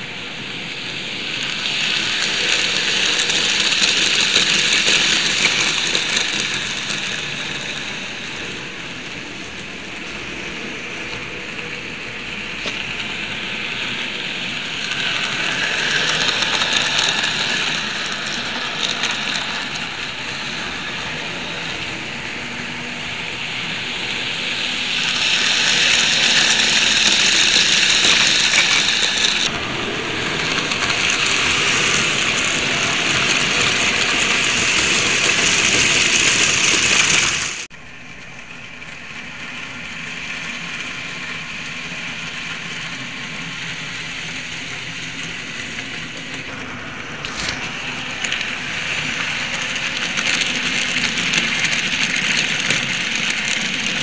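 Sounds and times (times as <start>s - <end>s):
another train rolling by: 0.0s - 54.0s
model train wheels rattling: 0.0s - 54.0s.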